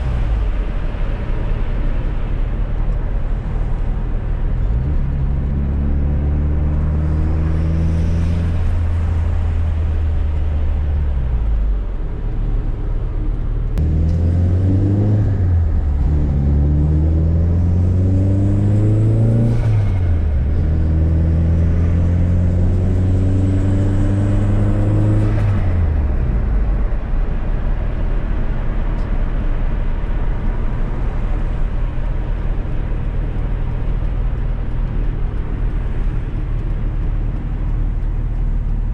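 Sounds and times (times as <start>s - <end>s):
car engine accelerating: 0.0s - 38.9s
road and tyre noise: 0.0s - 38.9s.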